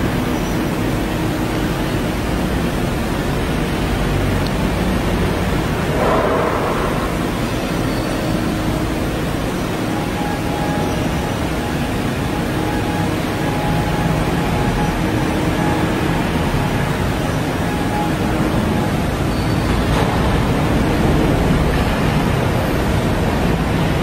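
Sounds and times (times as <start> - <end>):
faint whining tones: 0.0 - 24.0
industrial machinery rumble: 0.0 - 24.0.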